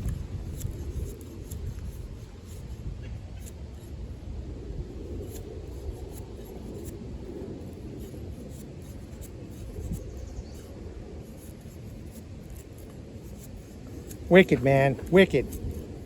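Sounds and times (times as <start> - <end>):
knife scraping wood: 0.0 - 4.2, 4.8 - 7.0, 7.6 - 16.0.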